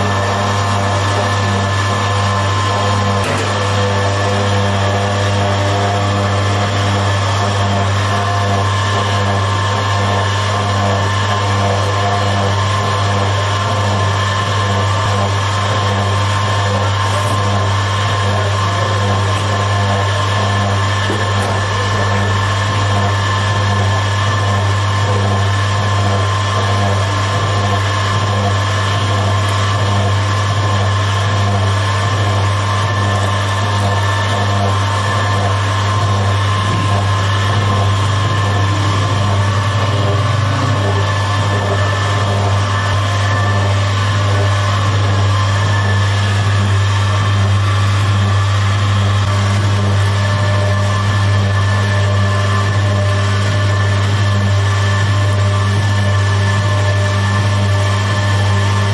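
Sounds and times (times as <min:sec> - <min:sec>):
electric dough mixer humming: 0:00.0 - 0:58.9.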